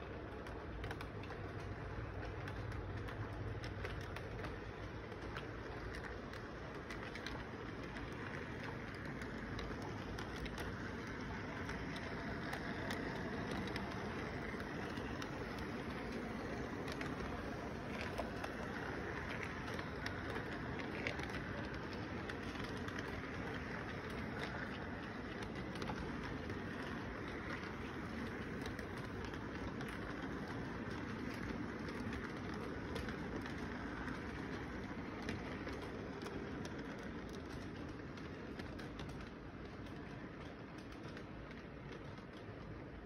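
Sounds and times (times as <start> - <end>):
model train rolling on track: 0.0 - 43.0.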